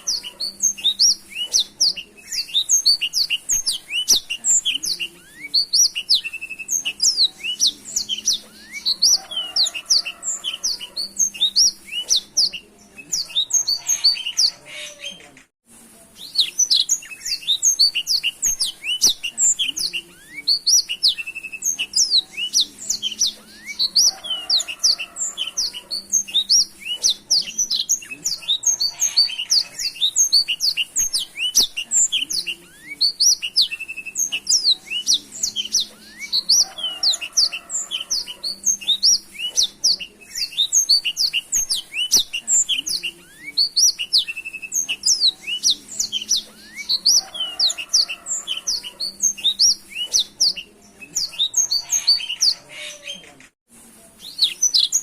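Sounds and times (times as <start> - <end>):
canary singing twittering song: 0.0 - 15.5, 16.1 - 53.6, 54.2 - 55.0.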